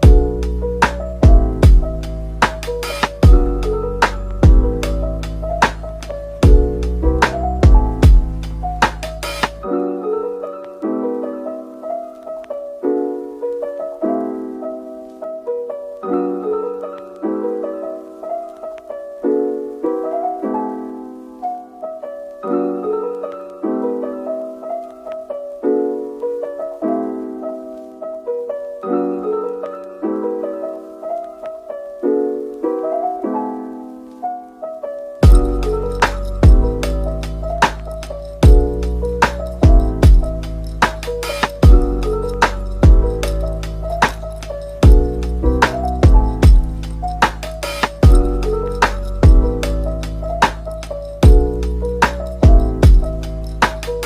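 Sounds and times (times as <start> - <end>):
gentle solo piano melody: 0.0 - 54.0.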